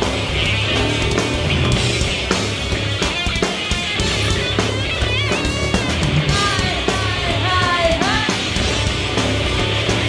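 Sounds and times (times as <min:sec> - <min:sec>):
electric guitar: 0:00.0 - 0:10.0.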